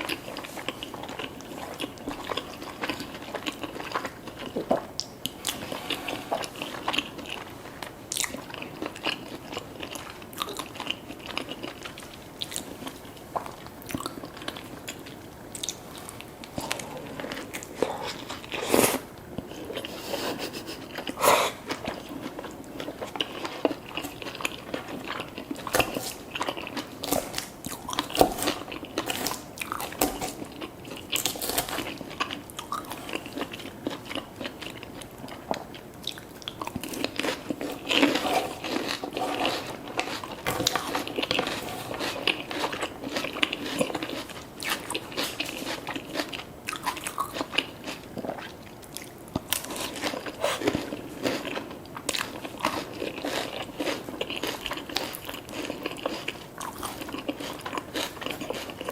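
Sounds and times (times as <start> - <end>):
person chewing crunchy food: 0.0 - 58.9.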